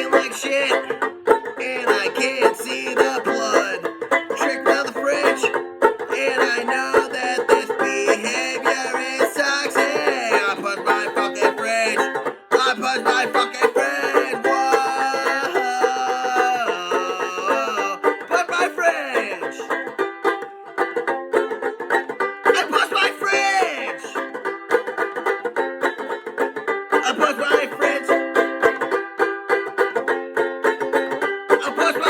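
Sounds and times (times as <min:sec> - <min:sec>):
banjolele strummed fast: 0:00.0 - 0:32.0.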